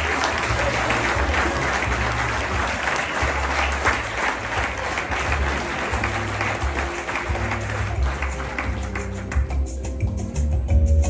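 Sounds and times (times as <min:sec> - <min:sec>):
audience applauding: 0:00.0 - 0:09.8
low bass music: 0:00.0 - 0:11.0.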